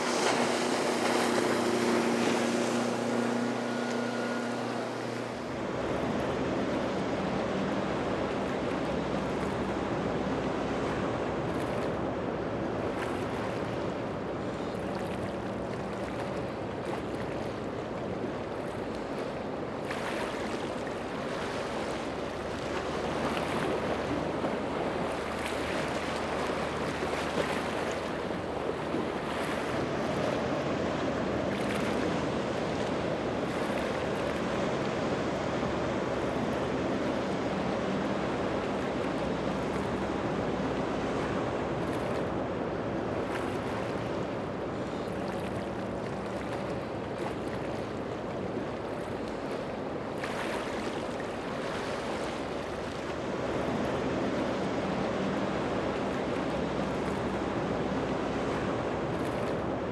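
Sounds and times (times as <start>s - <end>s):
boat engine drone: 0.0s - 59.9s
water spray and wake: 0.0s - 59.9s.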